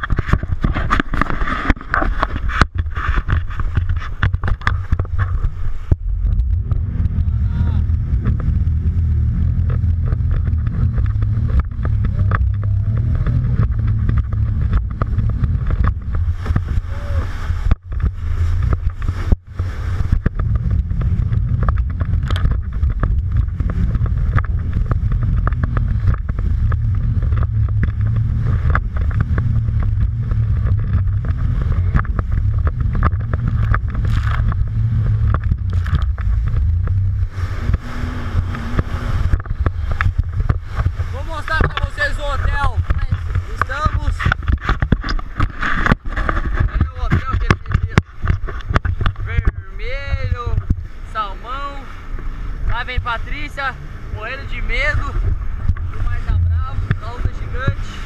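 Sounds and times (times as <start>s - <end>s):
hull splashing on water: 0.0s - 58.0s
jet ski engine: 0.0s - 58.0s
wind rumble on microphone: 0.0s - 58.0s.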